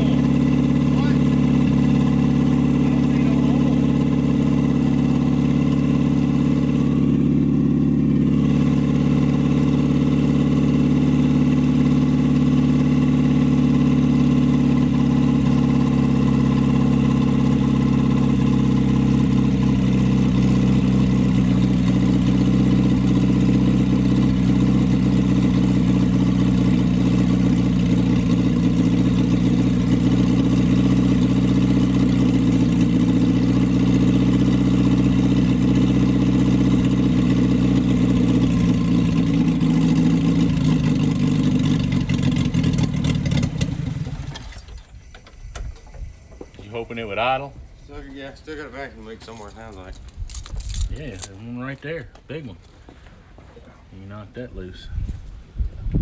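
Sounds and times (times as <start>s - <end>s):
car engine running: 0.0s - 51.5s.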